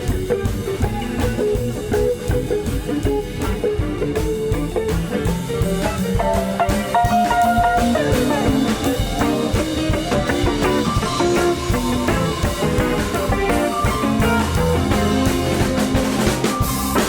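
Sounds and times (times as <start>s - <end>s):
drum kit beat: 0.0s - 17.0s
electric guitar: 0.0s - 17.0s
live rock band playing: 0.0s - 17.0s.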